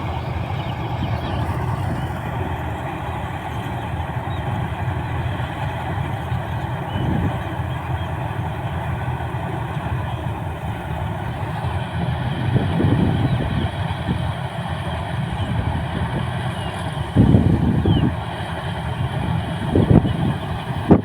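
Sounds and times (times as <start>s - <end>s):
combine harvester diesel engine: 0.0s - 21.0s.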